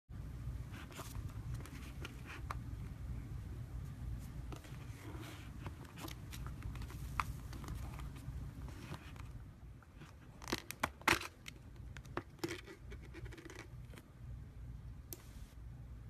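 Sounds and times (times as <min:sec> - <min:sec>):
steady low hum: 0:00.1 - 0:16.0.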